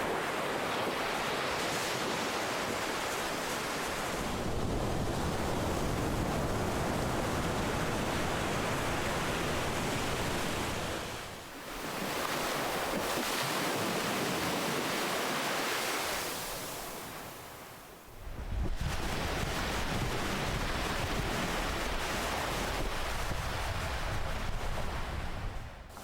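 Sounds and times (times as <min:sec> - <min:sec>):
ocean waves washing in: 0:00.0 - 0:26.0.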